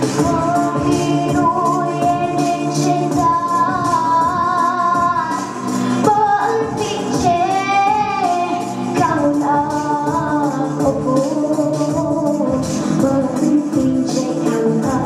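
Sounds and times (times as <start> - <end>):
girl singing with vibrato: 0.0 - 15.0
music with percussion beat: 0.0 - 15.0.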